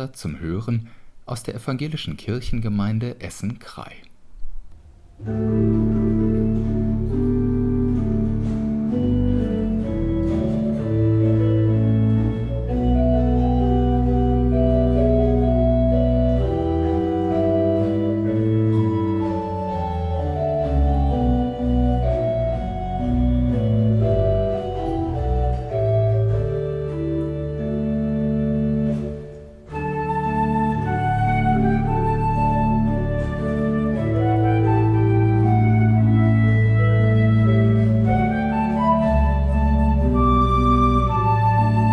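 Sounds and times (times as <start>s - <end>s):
organ playing slow chords: 4.3s - 41.9s.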